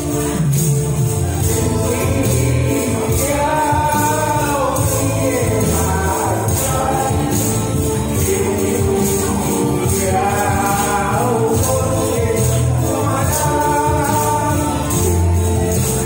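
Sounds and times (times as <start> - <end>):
karaoke backing track with bass beat: 0.0 - 16.0
tambourines jingling: 0.0 - 16.0
man singing into a microphone: 1.4 - 16.0.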